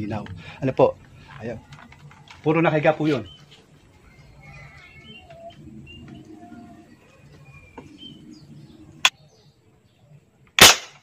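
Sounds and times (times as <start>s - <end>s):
birds chirping faintly: 0.0s - 10.6s.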